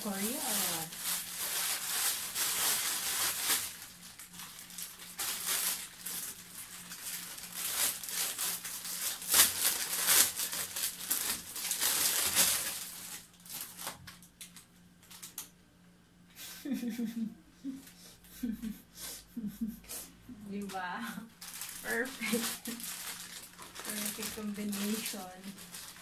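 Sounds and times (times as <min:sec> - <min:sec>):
plastic bag crinkling: 0:00.0 - 0:15.5, 0:20.6 - 0:26.0.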